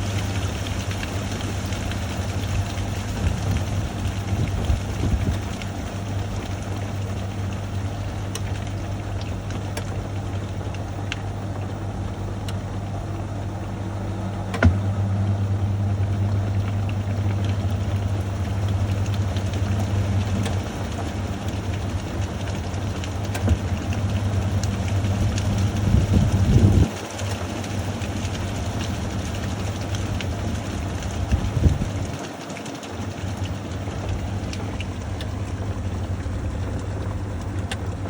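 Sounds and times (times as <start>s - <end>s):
washing machine spinning: 0.0s - 38.0s.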